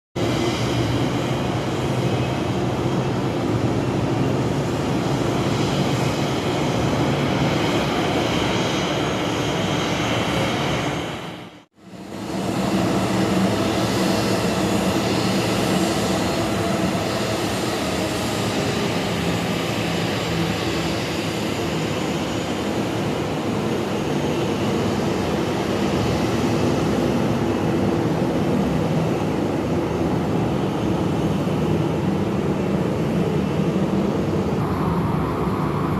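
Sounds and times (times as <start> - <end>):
jet engines roaring: 0.2 - 35.9.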